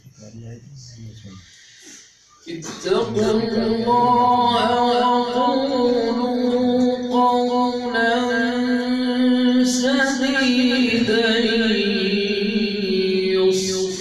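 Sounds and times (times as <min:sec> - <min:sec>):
man reciting melodically: 0:02.5 - 0:14.0.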